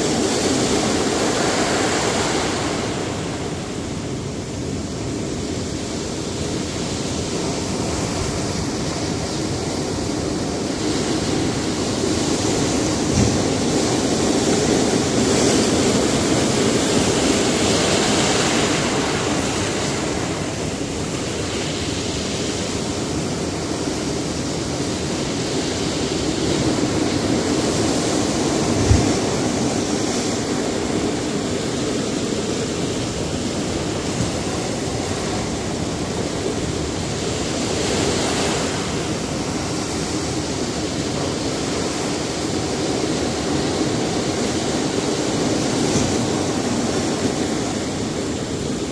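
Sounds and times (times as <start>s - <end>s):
surf breaking on rocky shore: 0.0s - 48.9s.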